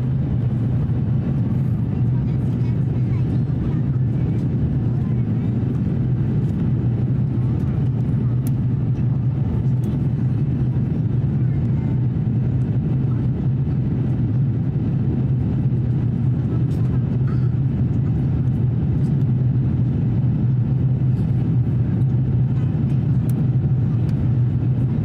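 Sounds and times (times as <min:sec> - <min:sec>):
aircraft cabin engine drone: 0:00.0 - 0:25.0.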